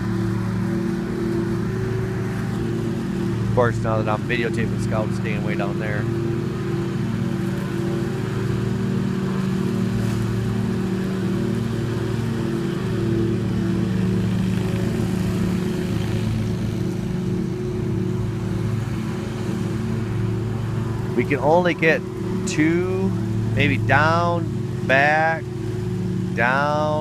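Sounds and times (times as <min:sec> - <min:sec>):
engine running steadily: 0:00.0 - 0:27.0.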